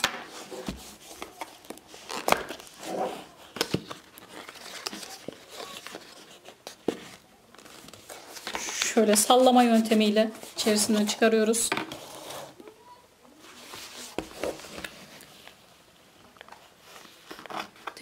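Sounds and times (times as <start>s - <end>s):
cardboard rustling: 0.0s - 12.6s, 13.4s - 15.6s.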